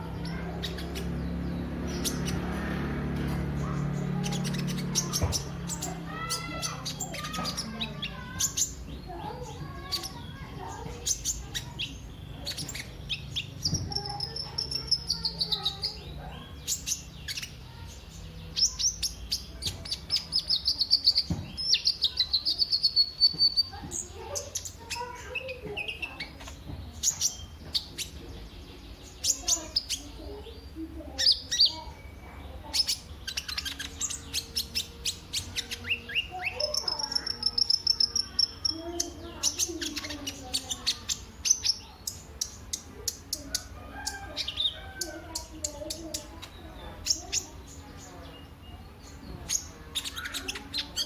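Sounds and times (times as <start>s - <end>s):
sunbird chirps and trills: 0.0s - 51.0s.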